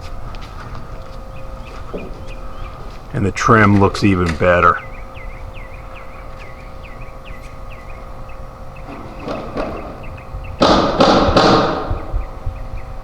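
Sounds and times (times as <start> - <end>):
small bird chirping: 0.0 - 10.6, 11.9 - 13.0
rustling thumps: 0.0 - 12.7.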